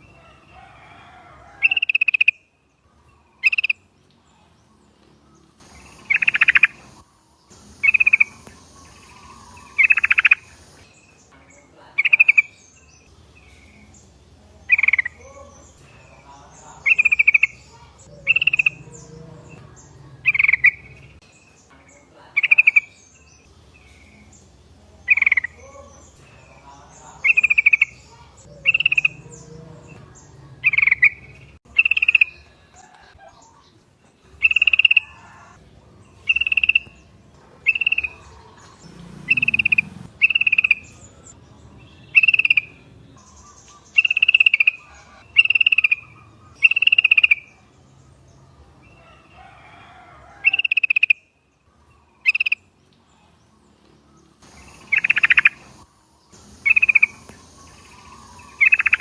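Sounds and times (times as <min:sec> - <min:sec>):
bulbuls singing bubbly phrases: 0:03.0 - 0:48.3, 0:54.4 - 0:59.0.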